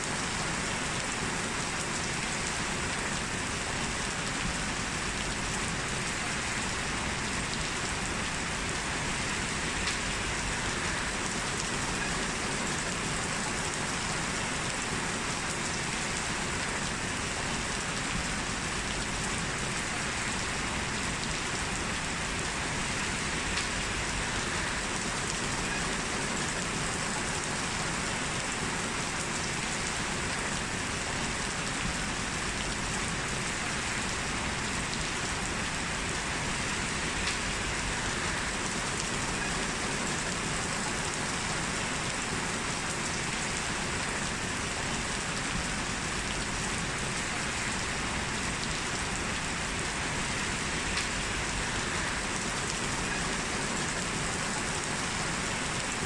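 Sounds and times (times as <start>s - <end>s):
heavy rain hissing: 0.1s - 56.0s.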